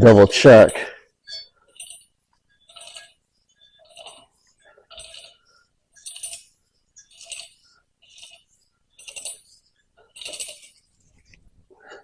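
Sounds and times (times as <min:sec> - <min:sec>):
metallic clinks and scrapes: 0:00.3 - 0:12.0.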